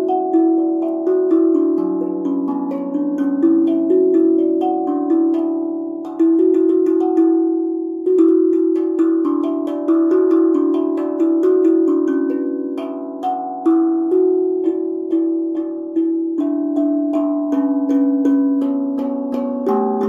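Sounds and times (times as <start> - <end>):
steel tongue drum melody: 0.0 - 20.0.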